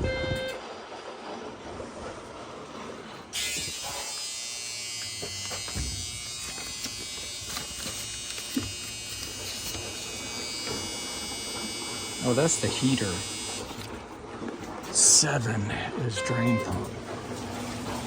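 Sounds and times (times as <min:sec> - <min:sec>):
washing machine buzzing: 0:00.0 - 0:18.0.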